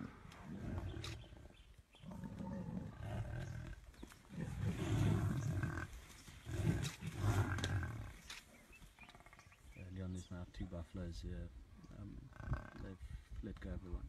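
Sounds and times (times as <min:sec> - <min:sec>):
lionesses growling: 0:00.0 - 0:13.1.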